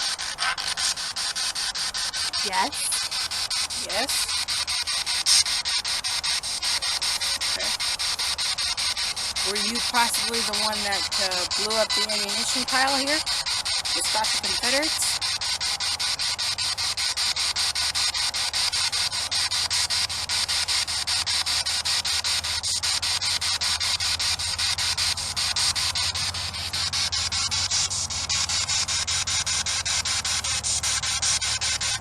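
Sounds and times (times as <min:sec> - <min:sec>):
low steady hum: 0:00.0 - 0:32.0
radio static chopped rapidly: 0:00.0 - 0:32.0.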